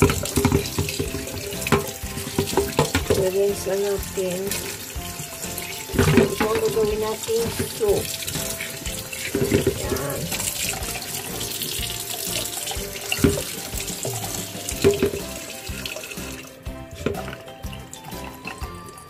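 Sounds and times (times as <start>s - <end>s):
tap running into sink: 0.0s - 18.6s
background music: 0.0s - 19.0s.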